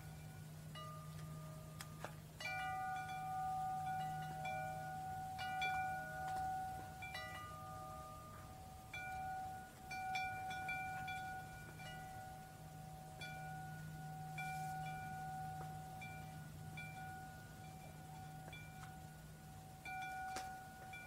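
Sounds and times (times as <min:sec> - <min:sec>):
faint low hum: 0:00.0 - 0:21.0
metal wind chime ringing: 0:02.4 - 0:21.0.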